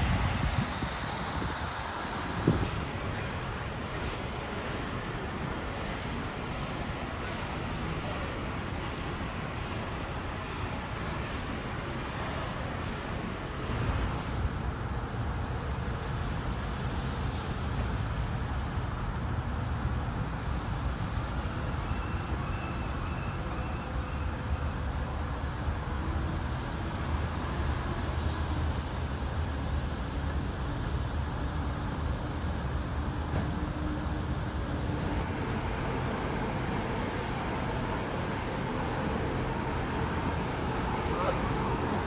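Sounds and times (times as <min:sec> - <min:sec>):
street traffic noise: 0:00.0 - 0:42.0.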